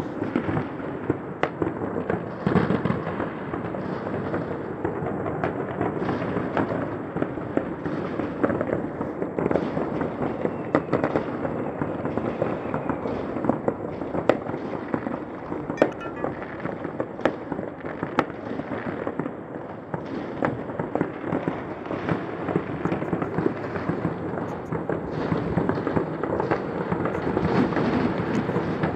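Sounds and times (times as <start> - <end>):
distant fireworks bangs and crackles: 0.0 - 28.9.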